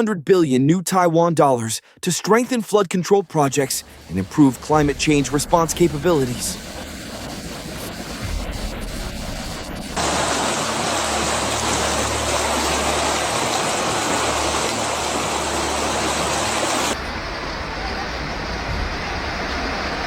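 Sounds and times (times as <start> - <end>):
water rushing: 3.3 - 20.0.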